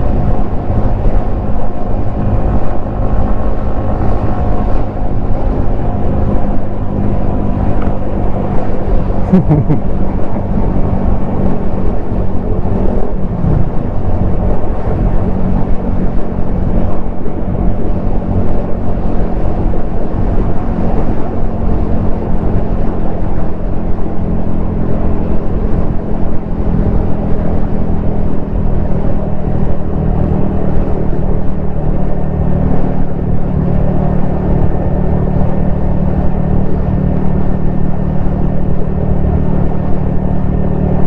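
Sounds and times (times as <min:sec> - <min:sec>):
motorcycle engine cruising: 0:00.0 - 0:41.0
wind noise: 0:00.0 - 0:41.0.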